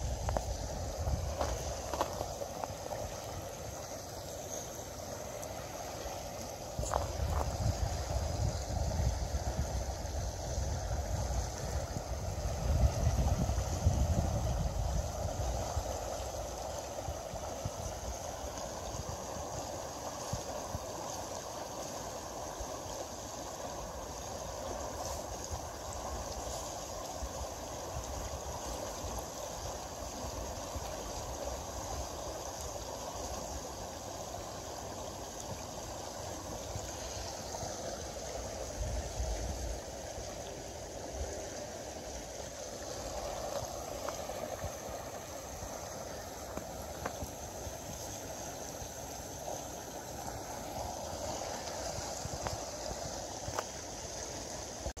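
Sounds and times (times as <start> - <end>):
fast river current rushing: 0.0 - 55.0.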